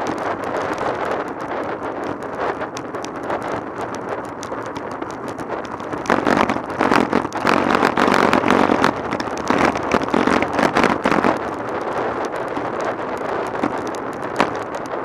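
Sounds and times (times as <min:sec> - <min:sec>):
bike and camera rattling: 0:00.0 - 0:15.0
bike road noise: 0:00.0 - 0:15.0
wind buffeting microphone: 0:00.0 - 0:15.0.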